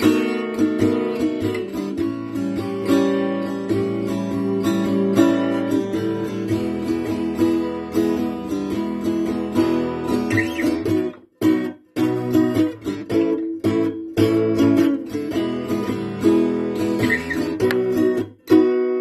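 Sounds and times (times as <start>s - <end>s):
acoustic guitar strummed chords: 0.0s - 19.0s.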